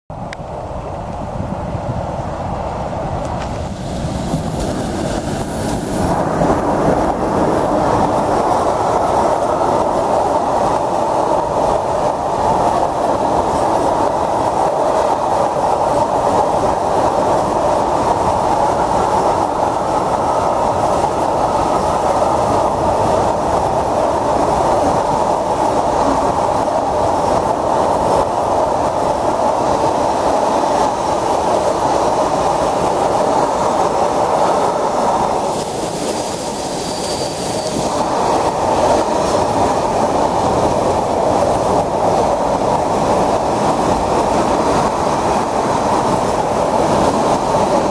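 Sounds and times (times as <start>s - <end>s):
freight train wheels rumbling: 0.1s - 47.9s.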